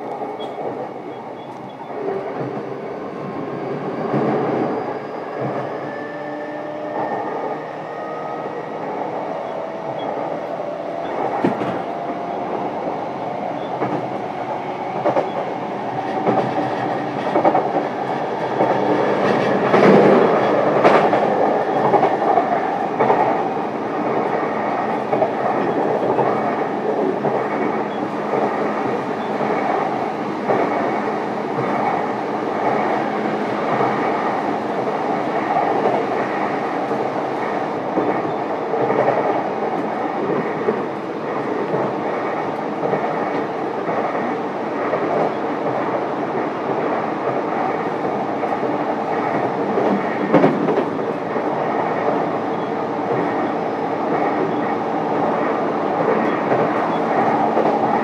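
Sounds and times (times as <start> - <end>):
clickety-clack over rail joints: 0.0 - 2.8, 8.1 - 58.0
wheels rumbling on rail: 0.0 - 58.0.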